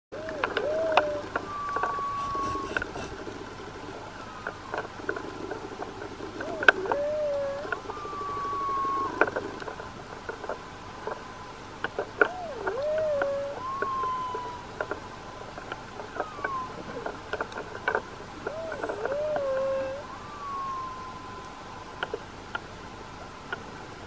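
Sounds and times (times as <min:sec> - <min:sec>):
humpback whale song: 0:00.2 - 0:11.4, 0:12.0 - 0:22.3.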